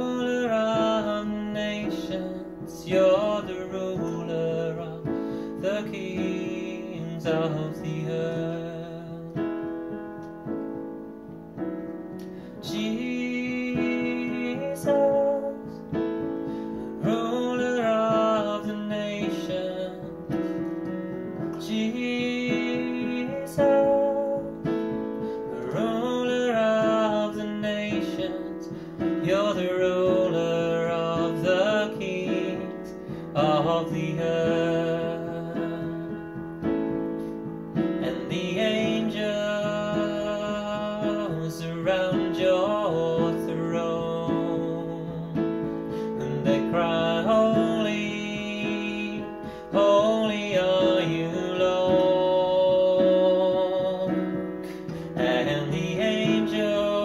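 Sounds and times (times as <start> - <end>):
man singing with vibrato: 0.0 - 9.8, 12.4 - 57.0
piano accompaniment: 0.0 - 57.0.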